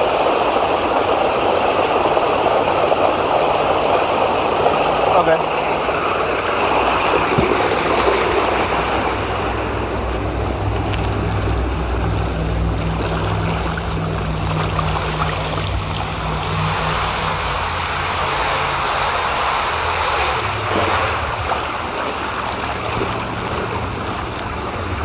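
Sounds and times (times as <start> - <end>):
water rushing down a slide: 0.0 - 25.0
low rumble: 2.7 - 25.0.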